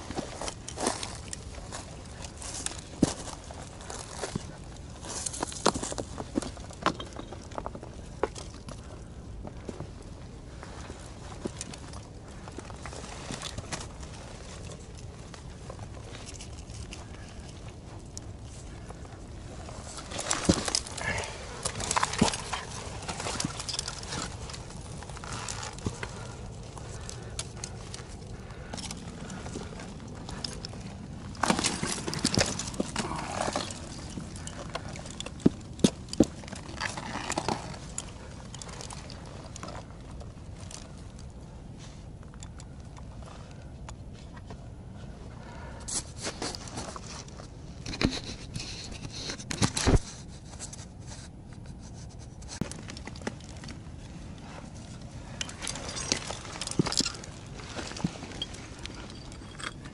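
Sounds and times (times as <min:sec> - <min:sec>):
boots and hands scraping rock: 0:00.0 - 0:10.0, 0:10.6 - 0:40.9, 0:45.8 - 0:59.9.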